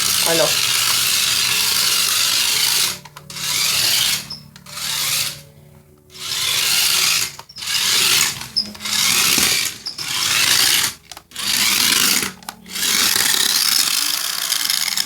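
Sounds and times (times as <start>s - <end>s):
remote-control car motor whirring: 0.0s - 5.4s, 6.1s - 15.0s.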